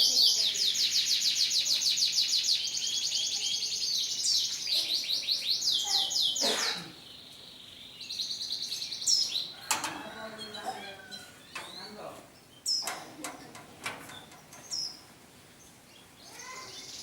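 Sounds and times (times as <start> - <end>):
canary singing in trills: 0.0 - 13.2, 14.0 - 17.0.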